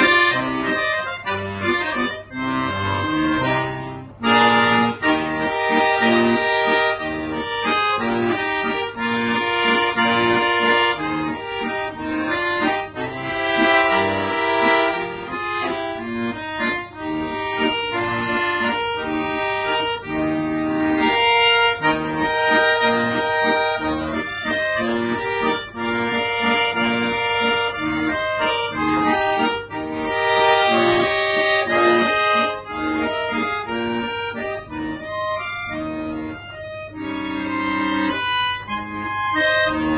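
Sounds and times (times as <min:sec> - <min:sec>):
solo accordion playing: 0:00.0 - 0:39.9.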